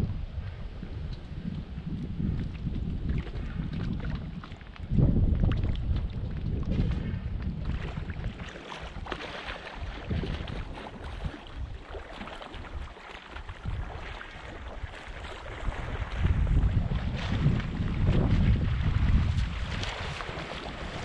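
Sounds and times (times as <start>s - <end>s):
water lapping and splashing: 0.0s - 21.0s
wind buffeting microphone: 0.0s - 21.0s.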